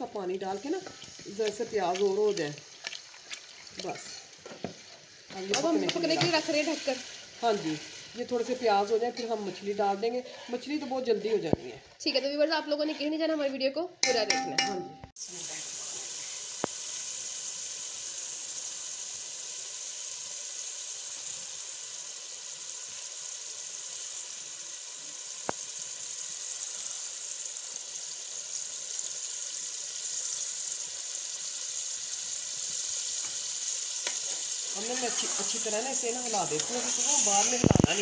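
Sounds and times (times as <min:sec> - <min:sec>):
onion masala sizzling in pot: 0:00.0 - 0:38.0.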